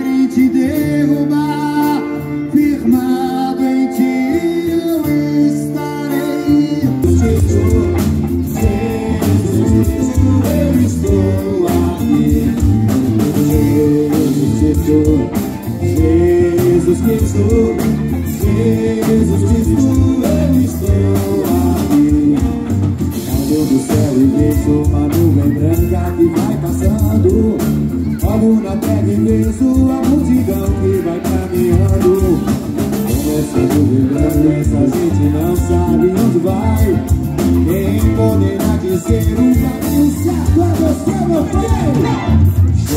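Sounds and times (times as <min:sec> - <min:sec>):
bass guitar: 0:00.0 - 0:42.9
drums: 0:00.0 - 0:42.9
electric guitar: 0:00.0 - 0:42.9
keyboard: 0:00.0 - 0:42.9
person singing: 0:00.0 - 0:42.9.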